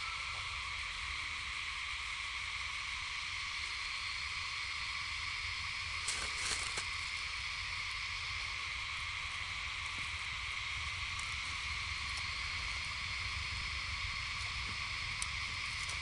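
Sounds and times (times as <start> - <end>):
shrill insect chorus: 0.0 - 16.0.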